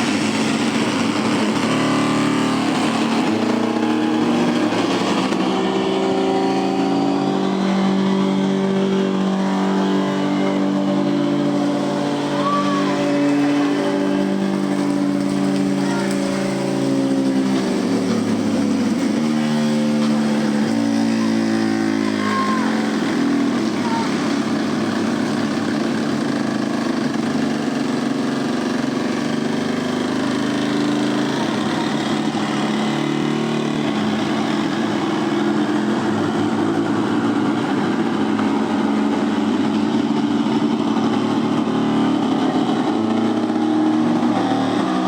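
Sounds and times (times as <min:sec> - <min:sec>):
wooden water wheels groaning: 0:00.0 - 0:45.0.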